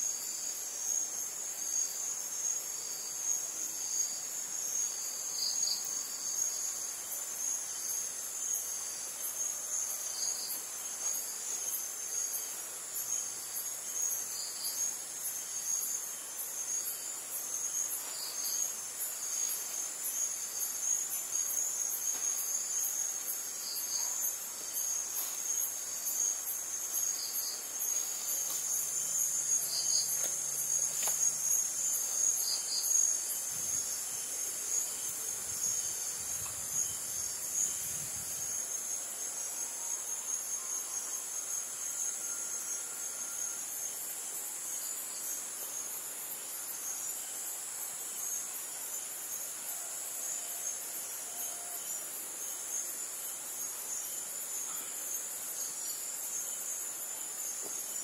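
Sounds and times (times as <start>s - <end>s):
insect paired chirps: 0.0s - 58.0s
insects trilling: 0.0s - 58.0s.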